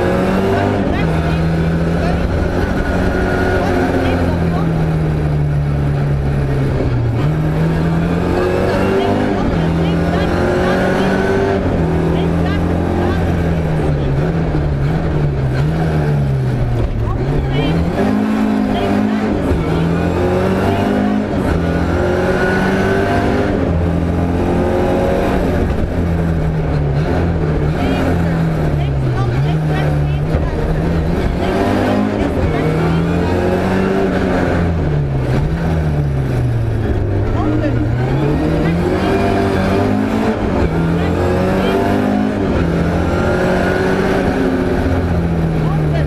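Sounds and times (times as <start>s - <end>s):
rally car engine accelerating: 0.0s - 46.0s.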